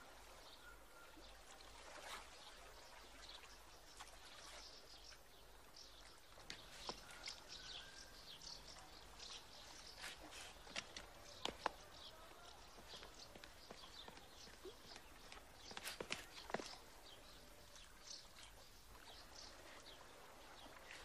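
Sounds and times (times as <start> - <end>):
water: 0.0 - 21.0
small birds chirping: 0.4 - 21.0.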